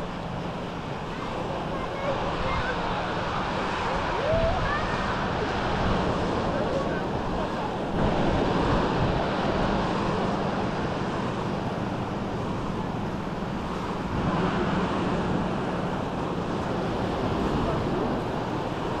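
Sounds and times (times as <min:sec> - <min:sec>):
waves breaking on beach: 0:00.0 - 0:19.0
wind on microphone: 0:00.0 - 0:19.0.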